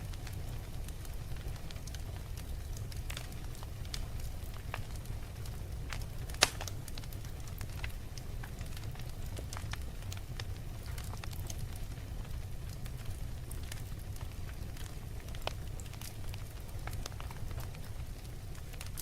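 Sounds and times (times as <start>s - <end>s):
wood fire crackling: 0.0s - 19.0s
fire pops and snaps: 0.1s - 19.0s.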